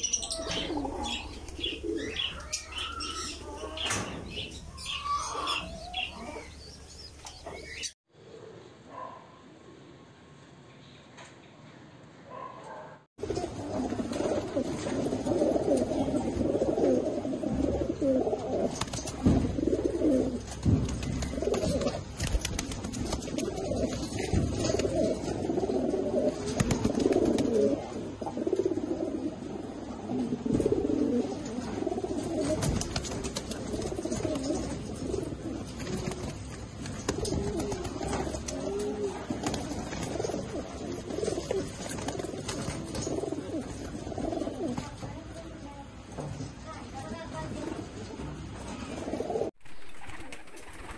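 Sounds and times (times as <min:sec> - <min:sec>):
pigeons cooing: 0:00.0 - 0:09.2, 0:12.3 - 0:45.0, 0:48.6 - 0:50.9.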